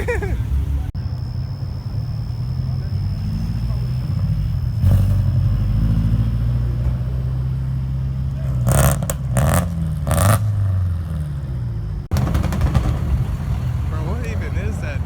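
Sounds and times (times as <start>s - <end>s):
car engine revving: 0.0s - 15.0s
loud blasts: 0.0s - 15.0s.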